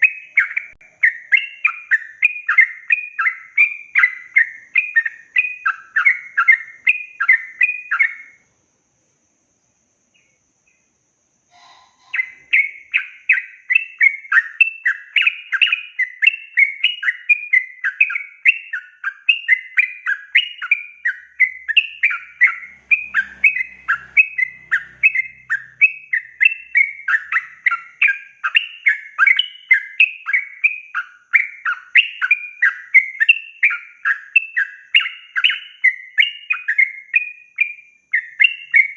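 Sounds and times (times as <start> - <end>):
bird chattering song: 0.0 - 8.5, 9.6 - 38.9.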